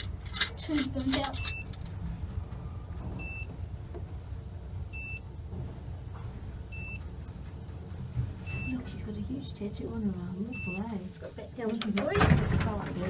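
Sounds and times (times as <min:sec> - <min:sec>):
lift travelling rumble: 0:00.0 - 0:13.0.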